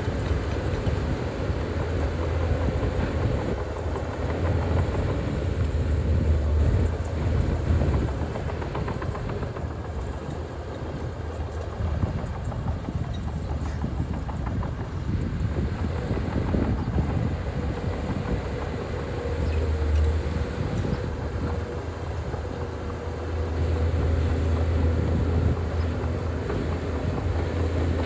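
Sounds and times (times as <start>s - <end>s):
bulldozer diesel engine rumbling: 0.0s - 28.0s
steel tracks clanking: 0.0s - 28.0s.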